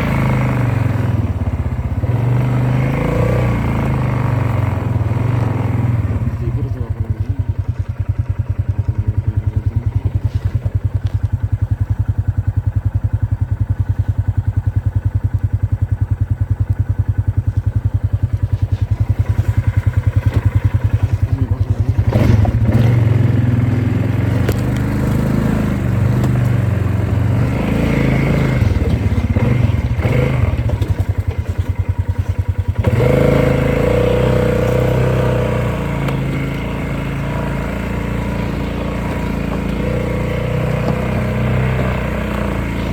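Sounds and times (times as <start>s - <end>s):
off-road vehicle engine running: 0.0s - 42.9s.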